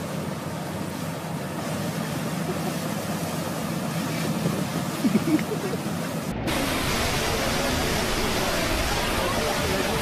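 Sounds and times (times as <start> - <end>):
high-pressure water jet rushing: 0.0 - 10.0
water flowing over wave ride: 0.0 - 10.0.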